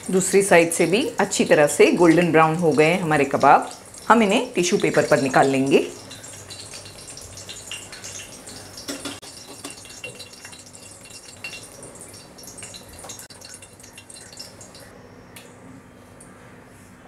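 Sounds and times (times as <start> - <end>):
oil sizzling and popping: 0.0 - 14.9.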